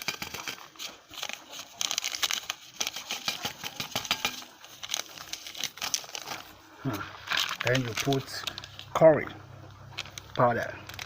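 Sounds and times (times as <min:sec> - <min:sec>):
plastic sachet crinkling: 0:00.0 - 0:11.0.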